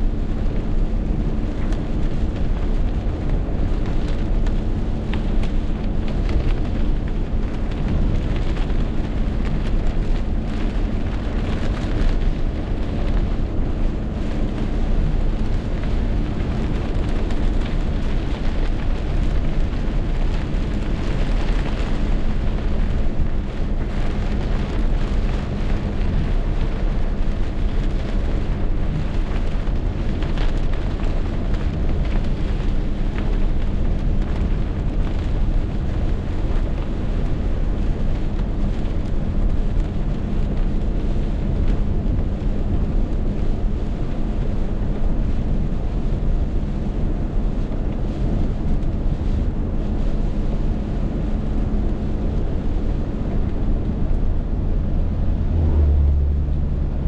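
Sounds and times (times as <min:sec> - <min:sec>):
heavy rain downpour: 0:00.0 - 0:57.0
wind: 0:00.0 - 0:57.0.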